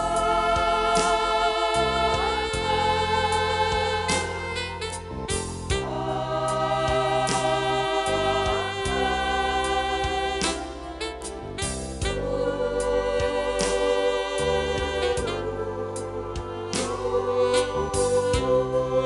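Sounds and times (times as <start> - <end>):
instrumental accompaniment: 0.0 - 19.0
vocal group singing gospel: 0.0 - 19.0.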